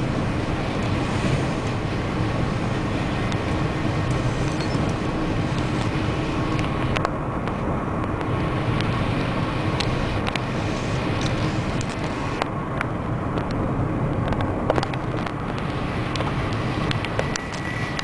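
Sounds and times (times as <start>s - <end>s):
train rumble and hiss: 0.0s - 18.0s.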